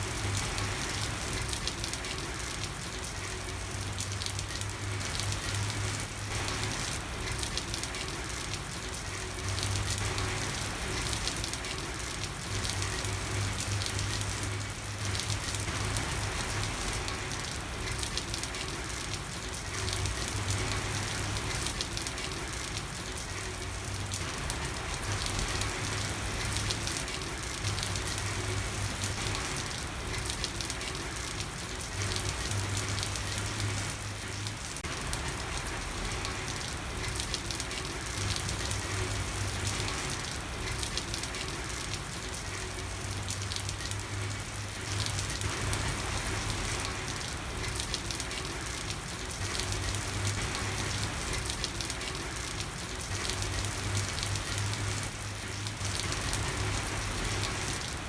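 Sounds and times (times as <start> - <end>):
rain falling on a street: 0.0 - 58.0.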